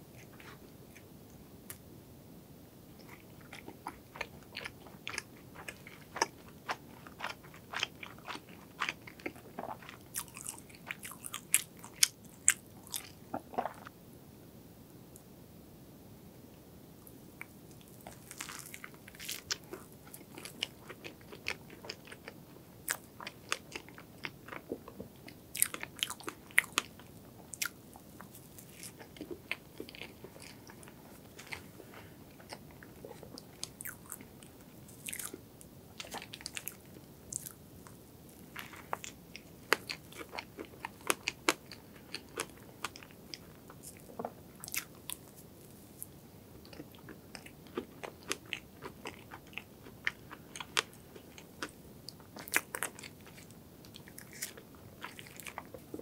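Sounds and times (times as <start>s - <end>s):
person chewing soft cake: 3.0s - 14.0s, 17.4s - 56.0s.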